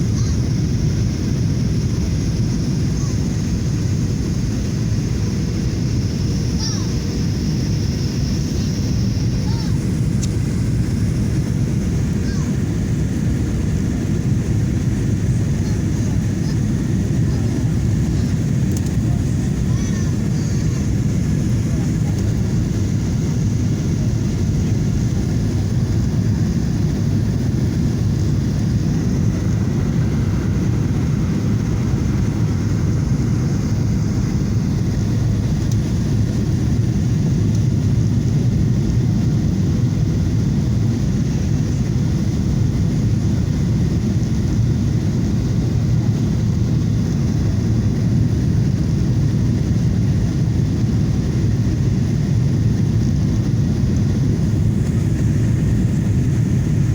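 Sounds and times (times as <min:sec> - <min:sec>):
airliner jet engine noise: 0:00.0 - 0:56.9.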